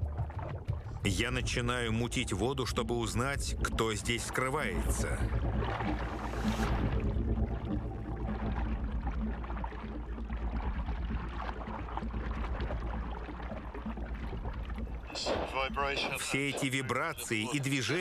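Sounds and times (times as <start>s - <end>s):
water churning underwater: 0.0s - 18.0s.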